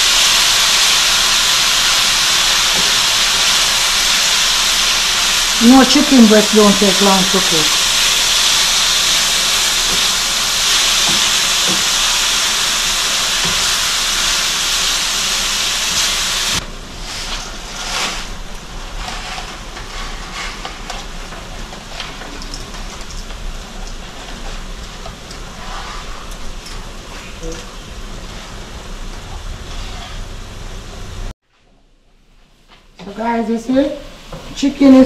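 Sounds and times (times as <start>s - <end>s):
chicken frying in oil sizzling: 0.0s - 31.3s.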